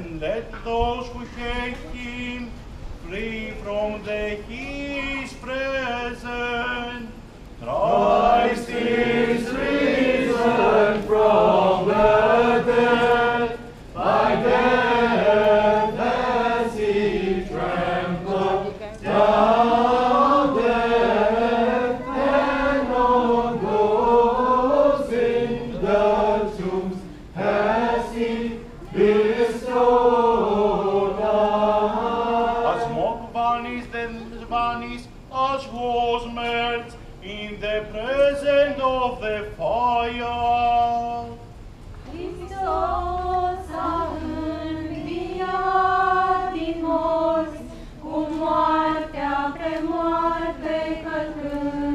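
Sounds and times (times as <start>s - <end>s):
voices singing chant: 7.6s - 41.4s, 42.1s - 51.9s.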